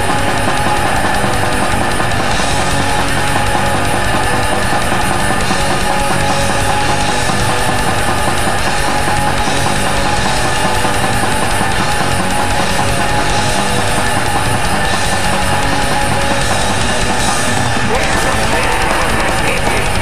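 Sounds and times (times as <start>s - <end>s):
distorted electric guitars: 0.0s - 20.0s
fast drumming on drum kit: 0.0s - 20.0s.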